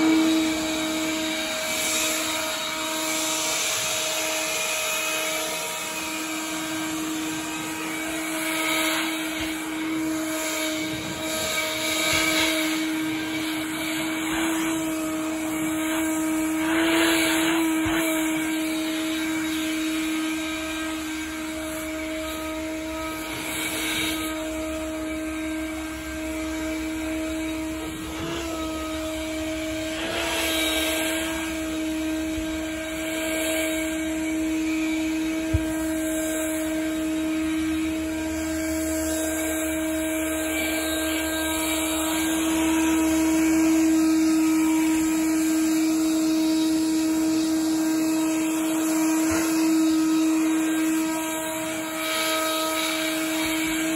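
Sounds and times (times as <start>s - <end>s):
leaf blower whine: 0.0s - 53.9s.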